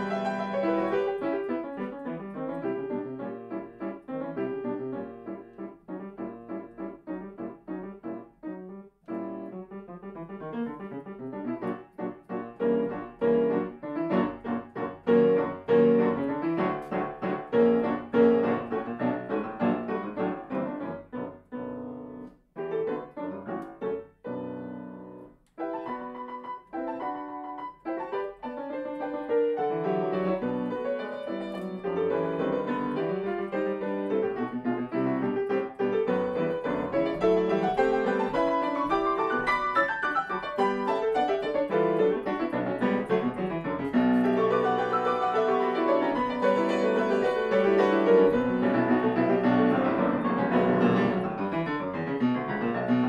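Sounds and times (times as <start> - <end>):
solo grand piano: 0.0 - 53.0.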